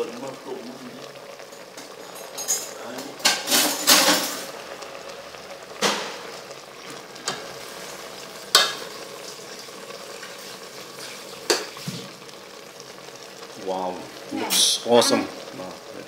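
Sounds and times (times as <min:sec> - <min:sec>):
soup bubbling with hiss: 0:00.0 - 0:16.0.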